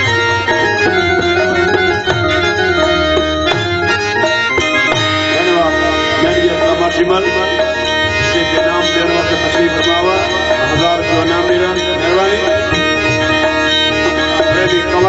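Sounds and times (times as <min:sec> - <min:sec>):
electronic keyboard melody: 0:00.0 - 0:15.0
hand drum rhythm: 0:00.0 - 0:15.0.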